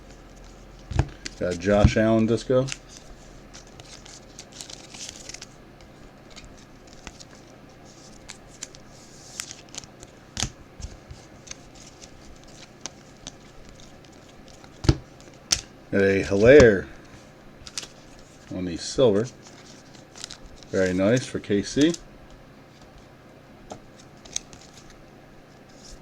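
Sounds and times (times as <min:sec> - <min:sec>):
trading cards rustling and clicking: 0:00.4 - 0:22.0, 0:23.7 - 0:25.0.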